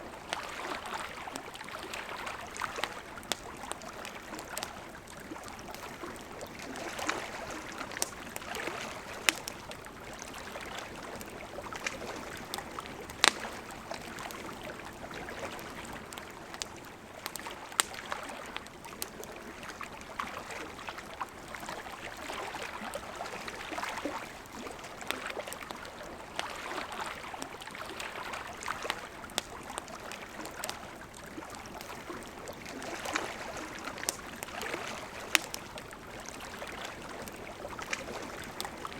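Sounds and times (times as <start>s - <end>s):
river water flowing: 0.0s - 38.9s
campfire crackling and popping: 0.2s - 38.9s.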